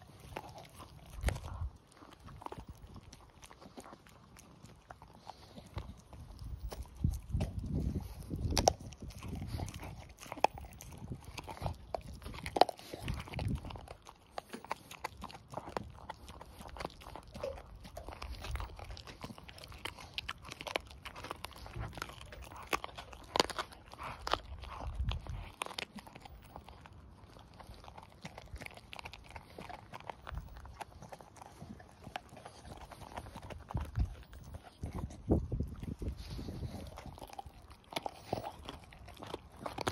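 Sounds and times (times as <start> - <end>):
dog chewing bone: 0.0 - 39.9.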